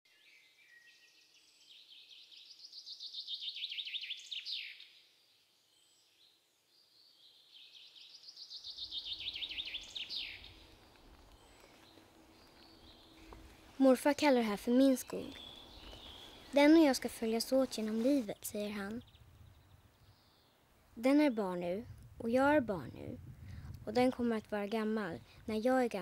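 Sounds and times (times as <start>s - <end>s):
songbird singing: 0.1s - 26.0s.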